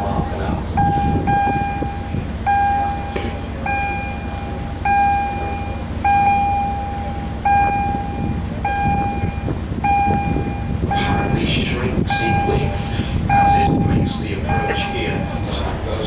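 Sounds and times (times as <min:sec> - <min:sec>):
low mechanical rumble: 0:00.0 - 0:16.0
high long warning beeps: 0:00.8 - 0:15.7.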